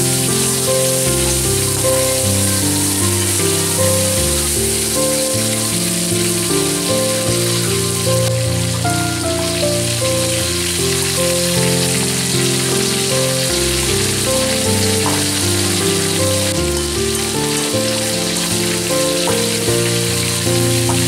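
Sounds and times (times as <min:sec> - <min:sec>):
background music melody: 0:00.0 - 0:21.0.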